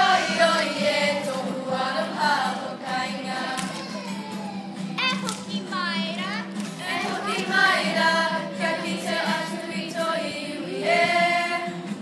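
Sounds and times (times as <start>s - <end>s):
children singing in unison: 0.0s - 4.8s, 6.8s - 12.0s.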